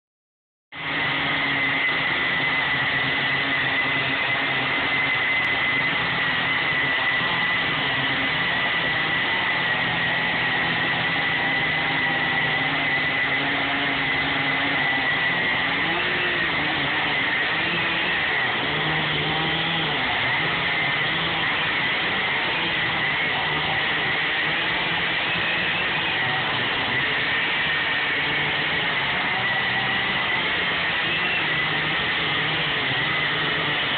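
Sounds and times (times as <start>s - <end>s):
chainsaws cutting log: 0.8s - 33.9s.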